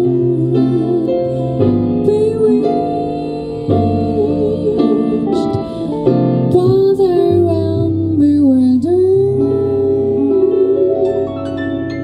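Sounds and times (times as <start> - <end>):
woman singing jazz: 0.0 - 11.8
small jazz band: 0.0 - 12.0.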